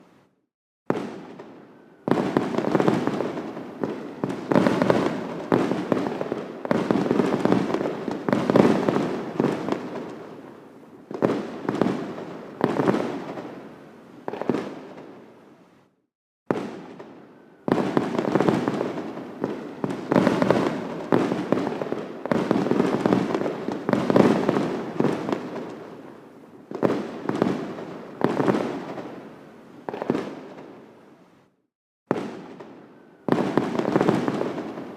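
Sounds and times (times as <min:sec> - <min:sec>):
fireworks bursting: 0:00.9 - 0:15.3, 0:16.5 - 0:30.9, 0:32.1 - 0:34.9.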